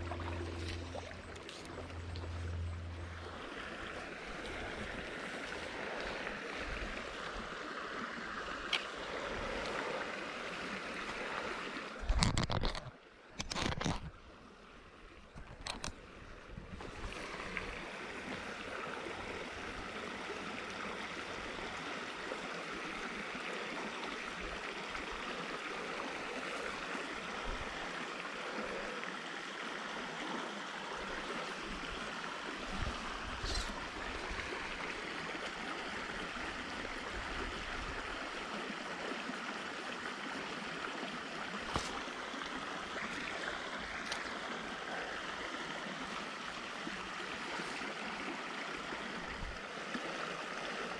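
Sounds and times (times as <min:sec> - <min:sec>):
stream flowing: 0:00.0 - 0:50.9.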